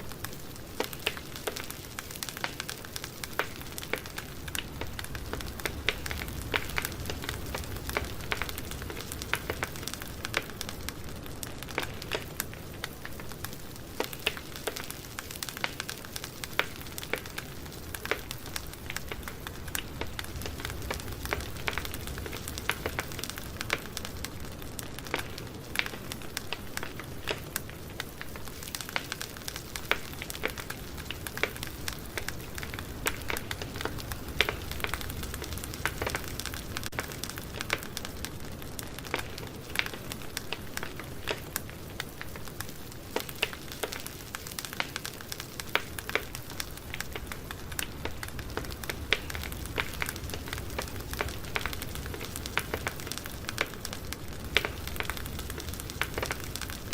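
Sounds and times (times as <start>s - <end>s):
campfire crackling: 0.0s - 56.9s
low rumble of flames: 0.0s - 56.9s.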